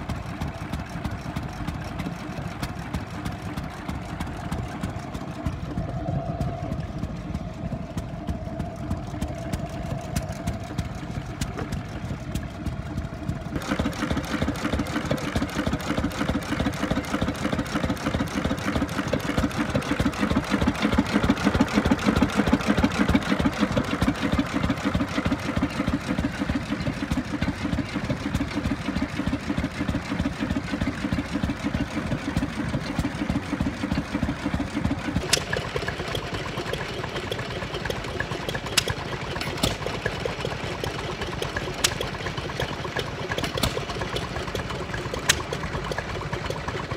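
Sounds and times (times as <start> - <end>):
small stationary engine running: 0.0 - 46.9.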